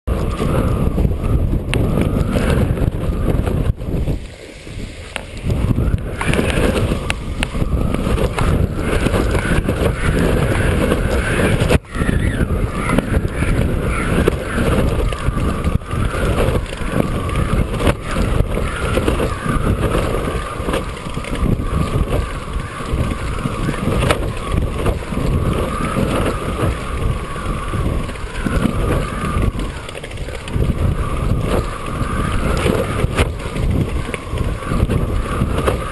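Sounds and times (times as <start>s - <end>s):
wind buffeting microphone: 0.0s - 35.9s
drone propeller motors whining: 0.1s - 35.9s.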